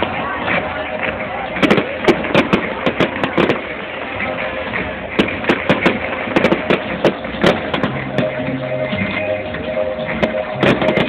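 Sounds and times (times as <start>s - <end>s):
fireworks bangs and cracks: 0.0s - 11.0s
music playing: 0.0s - 11.0s.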